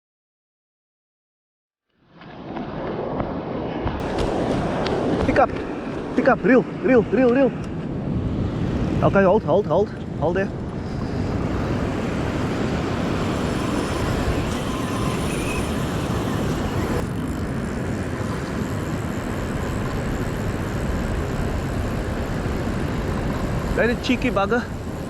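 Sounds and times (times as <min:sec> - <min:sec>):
beach surf rumble: 0:02.2 - 0:25.0
wind buffeting microphone: 0:02.7 - 0:25.0.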